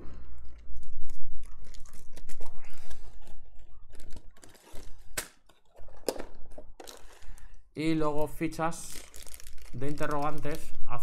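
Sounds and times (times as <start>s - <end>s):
plastic bags rustling: 0.3s - 11.0s.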